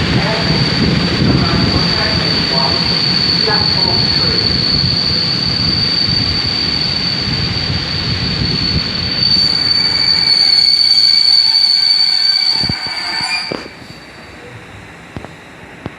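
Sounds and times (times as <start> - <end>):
train wheels squealing: 0.4 - 14.5.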